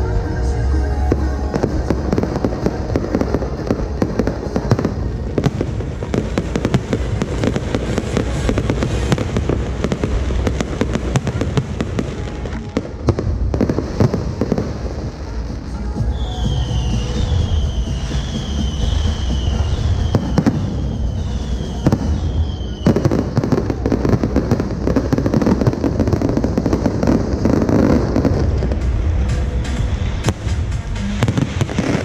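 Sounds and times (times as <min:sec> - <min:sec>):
fireworks crackling: 0:00.0 - 0:32.0.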